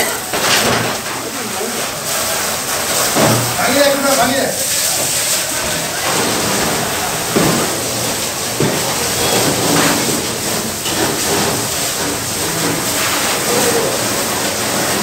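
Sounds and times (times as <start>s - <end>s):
fire hose spraying water: 0.0s - 15.0s.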